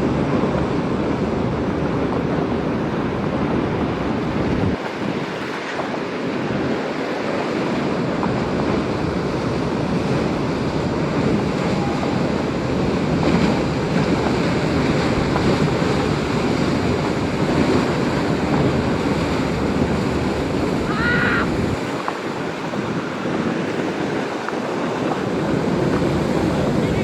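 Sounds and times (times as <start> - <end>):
ocean surf rushing: 0.0 - 27.0
wind buffeting microphone: 0.0 - 27.0.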